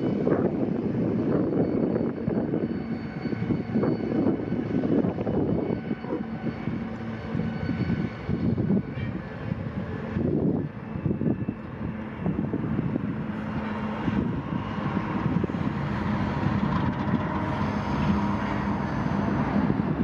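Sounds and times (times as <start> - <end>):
locomotive engine humming: 0.0 - 20.0
wind buffeting microphone: 0.0 - 20.0.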